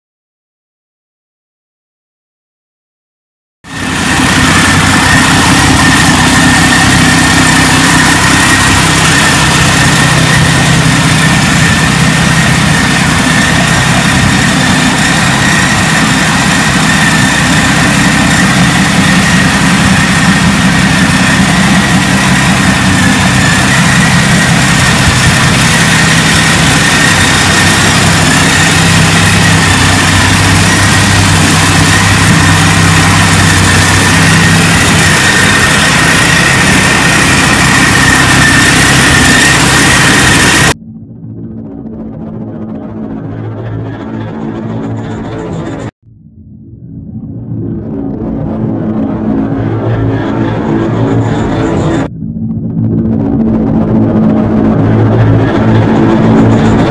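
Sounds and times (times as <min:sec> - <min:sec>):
supercharger high whine: 0:03.6 - 0:56.9
aircraft engine idling: 0:03.7 - 0:46.0, 0:47.4 - 0:56.9.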